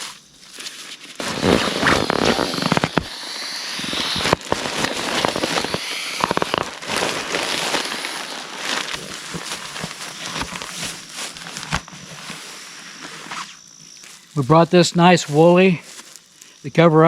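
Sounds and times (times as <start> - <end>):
crackling rustle of handling: 0.0 - 16.7.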